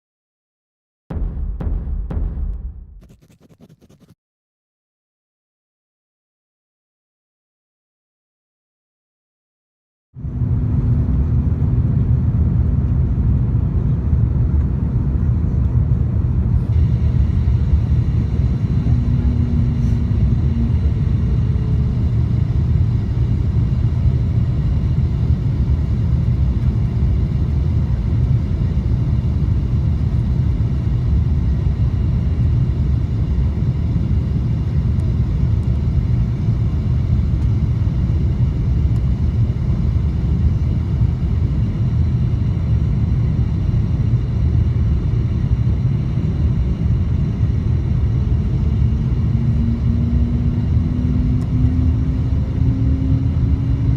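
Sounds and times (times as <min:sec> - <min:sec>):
airplane cabin rumble: 0:10.2 - 0:53.9.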